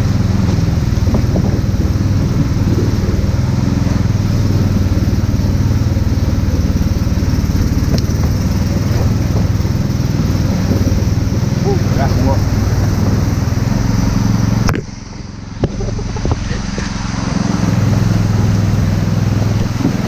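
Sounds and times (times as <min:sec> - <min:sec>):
outboard motor running: 0:00.0 - 0:20.0
water rushing past hull: 0:00.0 - 0:20.0.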